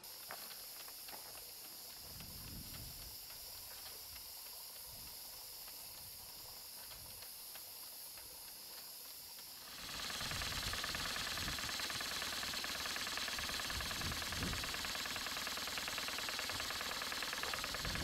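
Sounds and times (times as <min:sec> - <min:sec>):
faint exhaust beats: 0:00.0 - 0:18.0
steam engine running: 0:00.0 - 0:18.0
steam hiss: 0:00.0 - 0:18.0.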